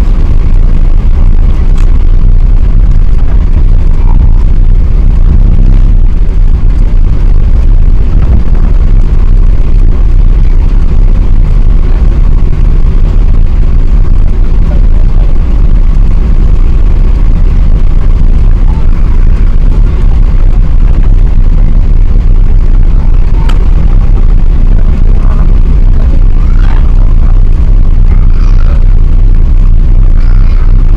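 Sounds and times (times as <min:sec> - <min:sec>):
jet engine and airflow rumble: 0:00.0 - 0:30.9.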